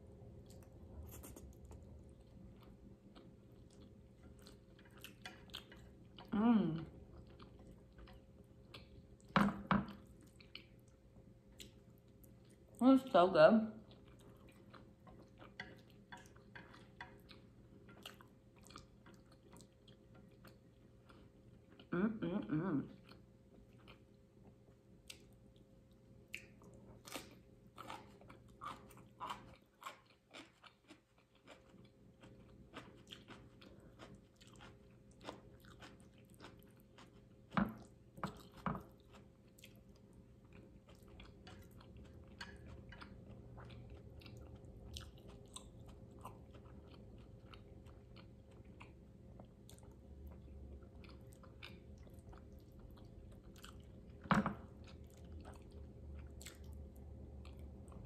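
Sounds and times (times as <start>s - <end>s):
person chewing: 0.3s - 12.8s, 13.8s - 22.0s, 22.9s - 58.0s.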